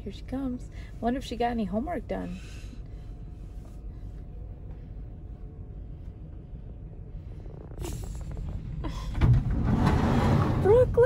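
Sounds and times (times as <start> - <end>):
low rumble inside vehicle: 0.0 - 11.0
outside noise: 0.0 - 11.0.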